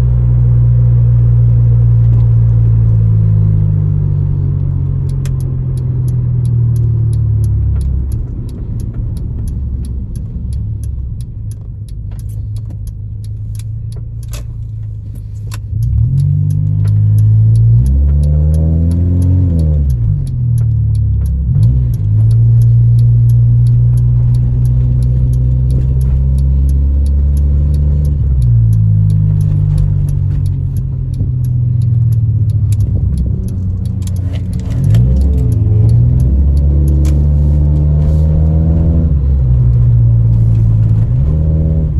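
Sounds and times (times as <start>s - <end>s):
misfiring car engine from inside: 0.0s - 41.9s
faint regular ticking: 0.3s - 41.9s.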